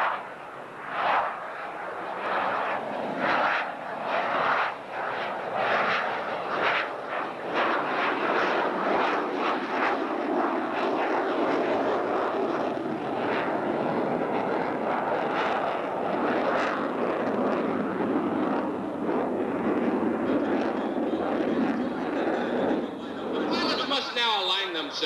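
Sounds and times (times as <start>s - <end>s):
jet aircraft engine roar: 0.0s - 25.0s.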